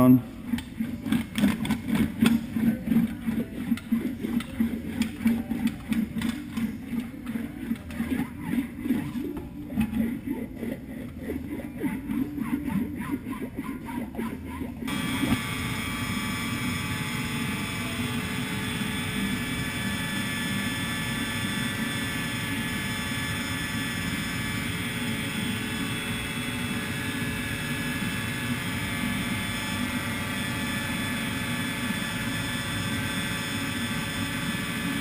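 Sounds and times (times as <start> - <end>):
steady mechanical drone: 0.0 - 35.0.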